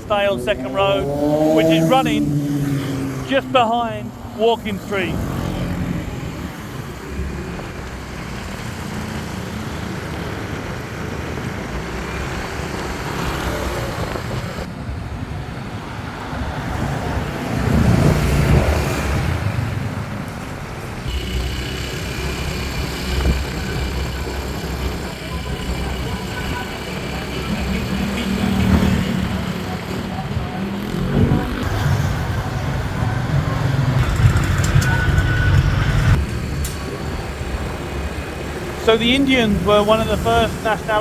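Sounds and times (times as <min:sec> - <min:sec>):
motorbike engine and road noise: 0:00.0 - 0:41.0.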